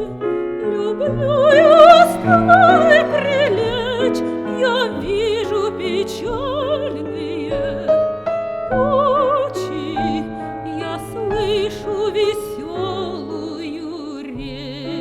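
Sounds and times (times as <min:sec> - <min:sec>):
piano accompaniment: 0:00.0 - 0:15.0
woman singing classical: 0:00.0 - 0:15.0.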